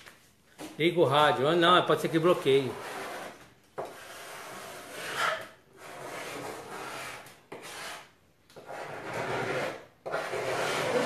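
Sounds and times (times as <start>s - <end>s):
hand scraping wooden tabletop: 2.0s - 11.0s.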